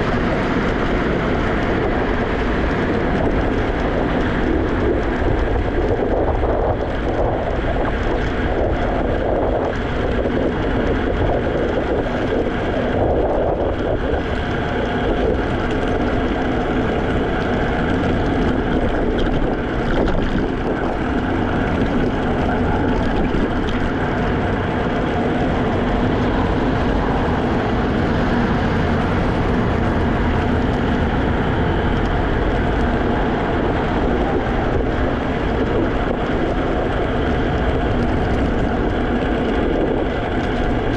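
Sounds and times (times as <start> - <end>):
electric scooter road rumble: 0.0 - 40.9
wind noise on microphone: 0.0 - 40.9.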